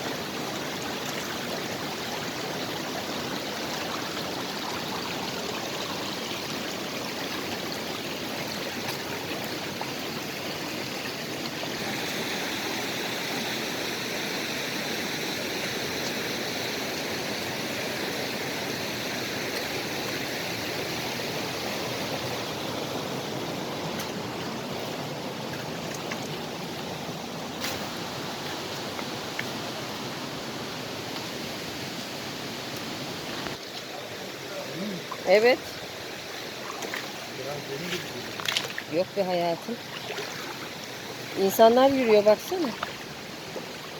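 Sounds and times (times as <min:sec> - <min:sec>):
creek water rushing: 0:00.0 - 0:43.9.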